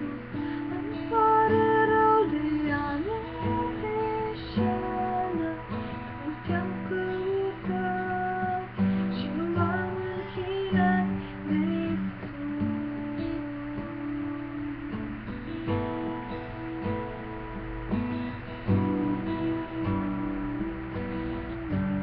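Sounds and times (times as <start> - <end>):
acoustic guitar strumming: 0.0 - 22.0
woman singing slow song: 0.0 - 22.0.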